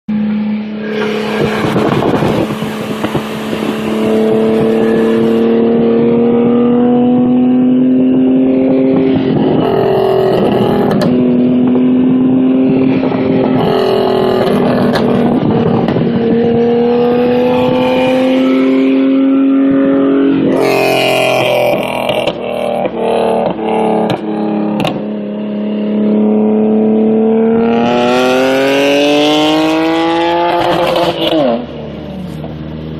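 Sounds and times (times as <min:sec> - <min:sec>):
car engine drone under load: 0:00.1 - 0:32.9.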